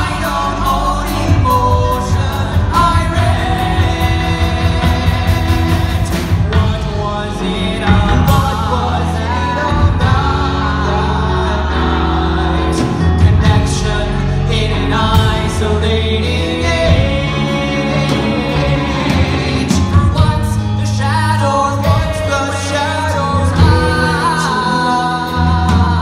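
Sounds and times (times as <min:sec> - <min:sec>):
rock band with drums: 0:00.0 - 0:26.0
two men singing rock duet: 0:00.0 - 0:26.0.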